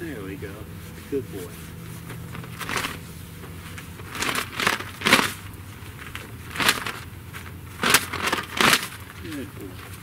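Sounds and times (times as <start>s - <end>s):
flag rustling: 0.0s - 10.0s.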